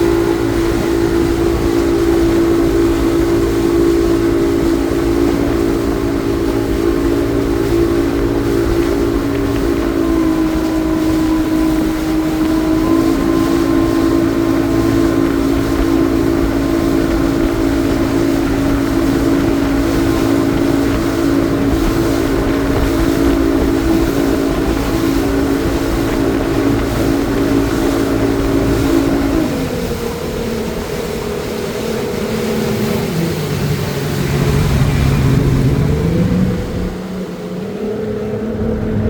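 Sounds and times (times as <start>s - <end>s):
motorboat engine running: 0.0s - 39.0s
water rumble: 0.0s - 39.0s
wind: 0.0s - 39.0s.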